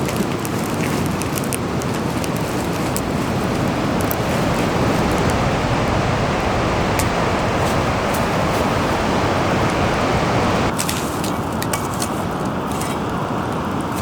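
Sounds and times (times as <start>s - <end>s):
rain and running water: 0.0s - 13.0s.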